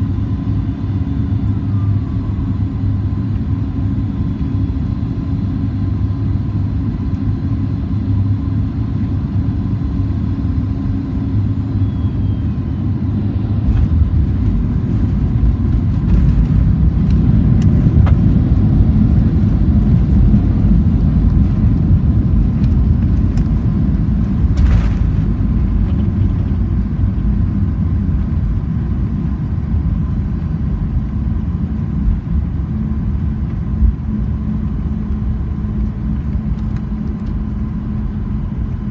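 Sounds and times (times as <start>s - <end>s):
jet cabin engine rumble: 0.0s - 38.9s.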